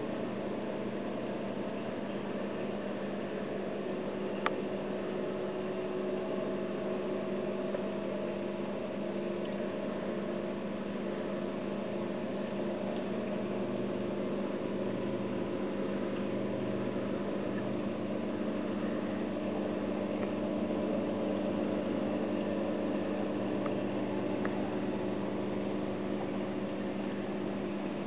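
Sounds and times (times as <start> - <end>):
aquarium pumps humming: 0.0 - 28.0.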